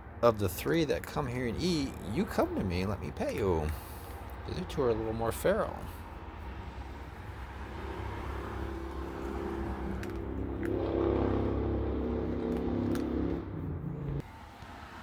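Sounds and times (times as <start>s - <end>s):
vehicle engine running: 0.5s - 14.4s.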